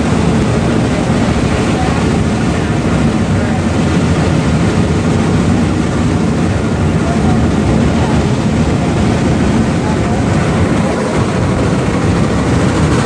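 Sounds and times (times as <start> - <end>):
locomotive running noise: 0.0 - 13.0
steam locomotive exhaust chuffs: 0.0 - 13.0.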